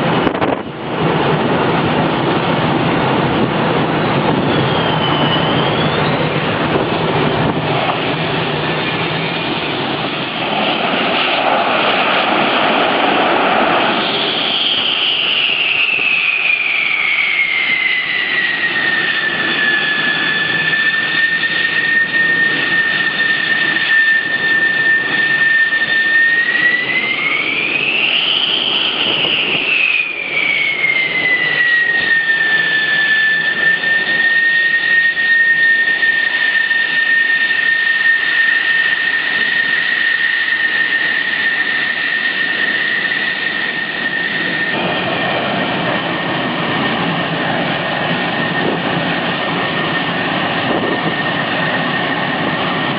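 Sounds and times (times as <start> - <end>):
jet engine roar with high whine: 0.0 - 52.9.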